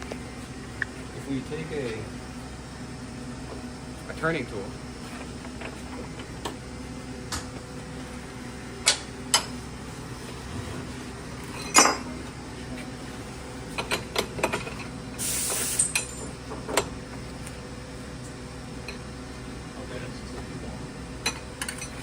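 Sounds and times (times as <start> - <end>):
low shop hum: 0.0 - 22.0.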